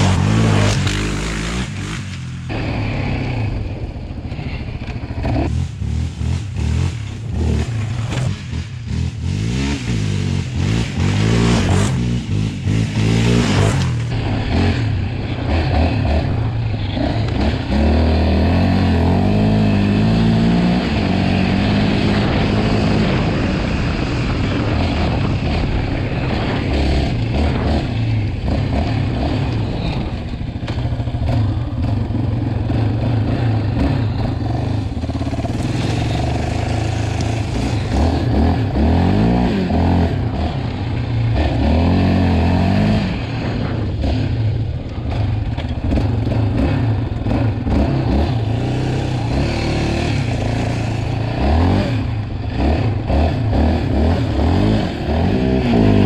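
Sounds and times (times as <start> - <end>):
quad engine revving: 0.0 - 3.7, 4.3 - 56.0.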